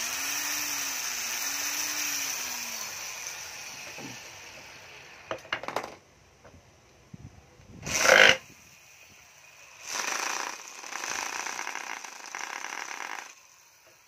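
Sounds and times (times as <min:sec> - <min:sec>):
cordless drill whirring: 0:00.0 - 0:05.2, 0:07.8 - 0:14.0.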